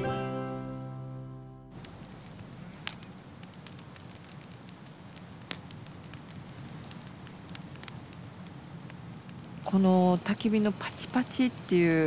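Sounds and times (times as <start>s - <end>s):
wood fire crackling and popping: 1.7s - 12.0s
faint hiss: 1.8s - 12.0s.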